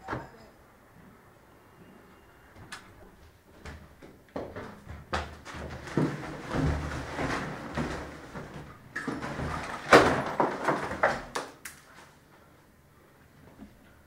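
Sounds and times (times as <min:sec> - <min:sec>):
rustling and handling noise: 0:02.6 - 0:14.0.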